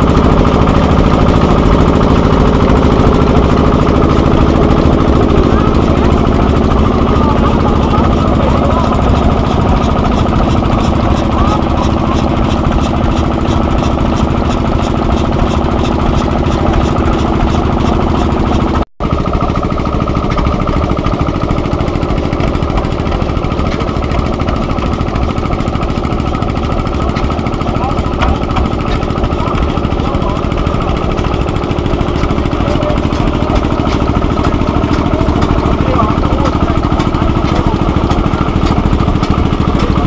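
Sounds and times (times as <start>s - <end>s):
tractor engine idling: 0.0s - 40.0s.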